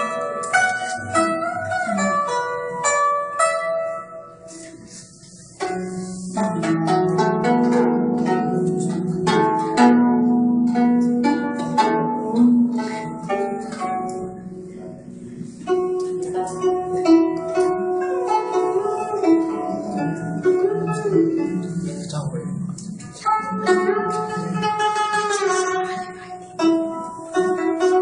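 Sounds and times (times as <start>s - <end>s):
zither plucked notes: 0.0s - 28.0s.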